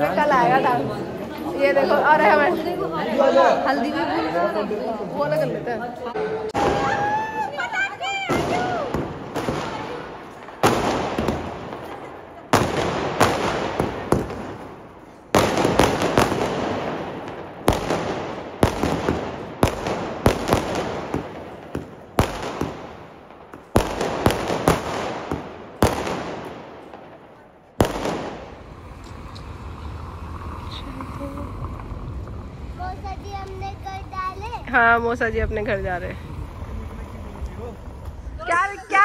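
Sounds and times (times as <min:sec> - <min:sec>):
fireworks bangs: 0:06.3 - 0:39.0.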